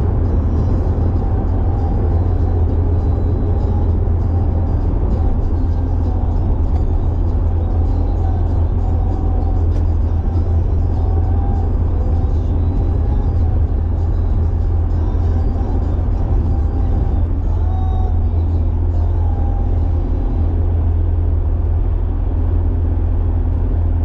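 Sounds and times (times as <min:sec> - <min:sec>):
car engine and road drone: 0:00.0 - 0:24.0.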